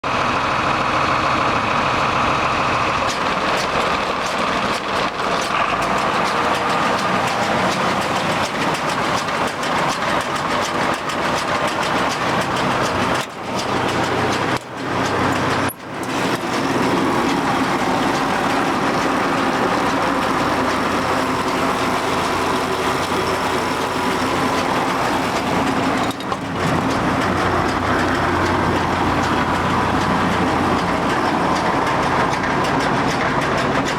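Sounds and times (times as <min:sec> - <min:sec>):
tractor engine drone: 0:00.0 - 0:33.9
baler mechanical clatter: 0:01.5 - 0:33.9.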